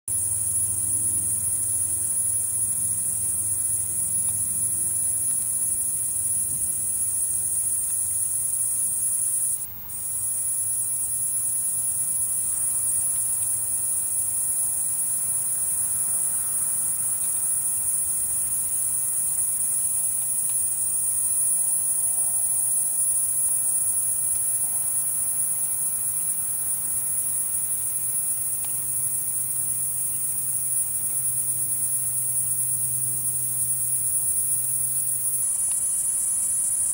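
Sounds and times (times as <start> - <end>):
cicada buzzing: 0.1 - 36.9.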